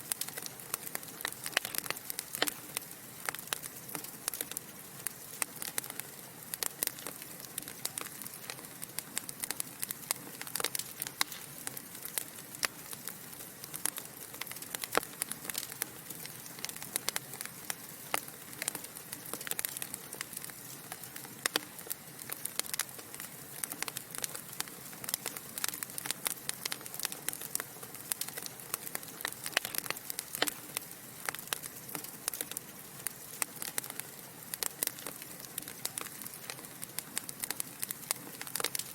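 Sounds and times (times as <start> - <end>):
soft hiss of fire: 0.0 - 38.9
wood fire crackling and popping: 0.0 - 38.9.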